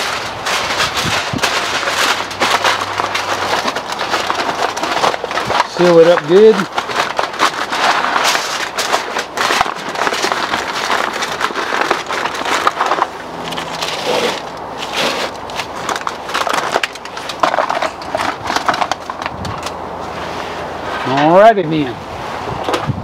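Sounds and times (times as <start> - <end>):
aluminium foil crinkling: 0.0 - 19.8.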